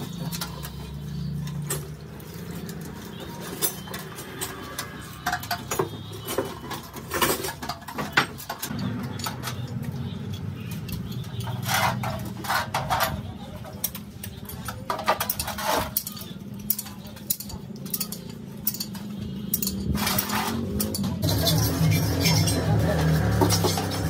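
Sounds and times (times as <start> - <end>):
ringing metal scrapes: 0.0 - 13.6, 14.5 - 24.0
metal tools clinking: 0.0 - 24.0.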